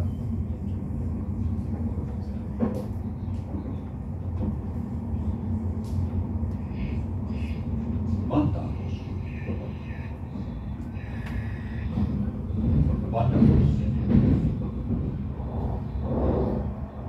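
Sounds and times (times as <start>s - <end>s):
train rumbling from inside: 0.0s - 17.0s.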